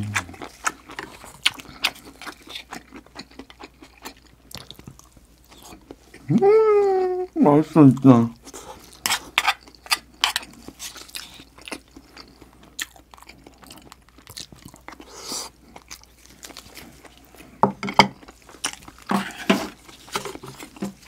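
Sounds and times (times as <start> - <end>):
person chewing food: 0.0 - 6.4, 7.9 - 21.0.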